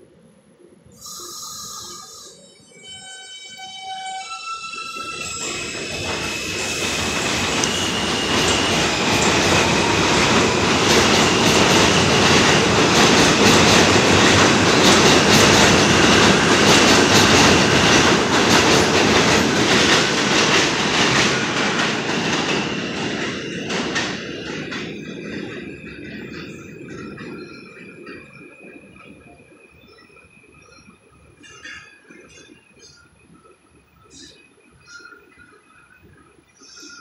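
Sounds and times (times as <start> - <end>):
subway train rumbling: 0.0 - 37.0.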